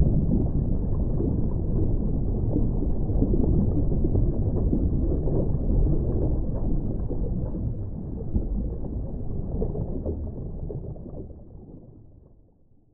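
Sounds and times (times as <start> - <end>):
bubbles crackling and splashes: 0.0 - 12.9
muffled underwater sloshing: 0.0 - 12.9.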